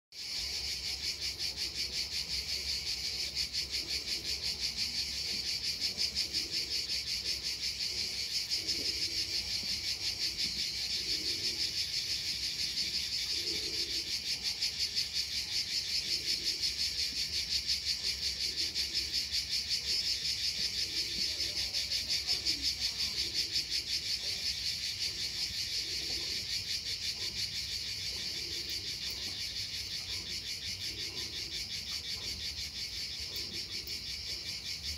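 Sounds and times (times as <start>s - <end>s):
cicadas buzzing: 0.2s - 34.9s.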